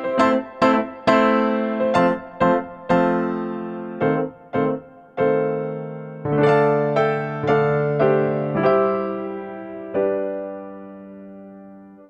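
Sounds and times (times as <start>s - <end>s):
slow keyboard tune: 0.0s - 12.0s.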